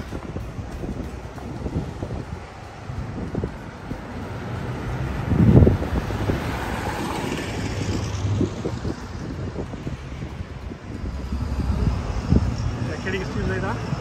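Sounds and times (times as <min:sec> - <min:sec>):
street traffic: 0:00.0 - 0:14.0
wind buffeting microphone: 0:00.0 - 0:14.0.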